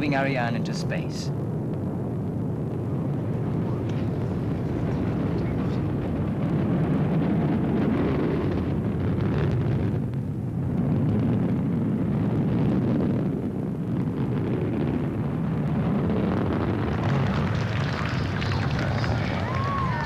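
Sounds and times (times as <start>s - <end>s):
rocket rumble: 0.0s - 20.0s.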